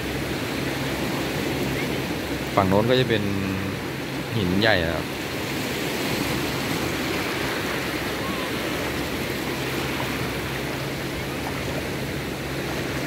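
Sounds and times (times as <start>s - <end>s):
waves washing over sand: 0.0s - 13.0s.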